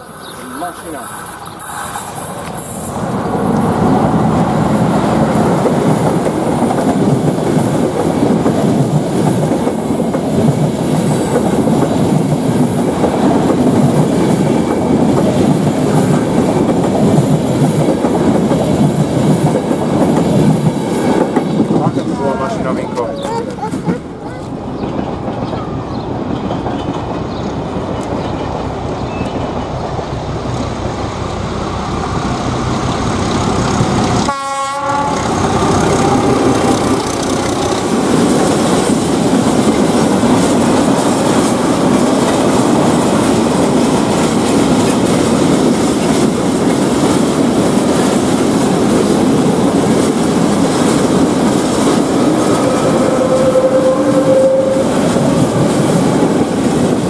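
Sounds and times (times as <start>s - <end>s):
train rail rumble: 0.0s - 57.0s.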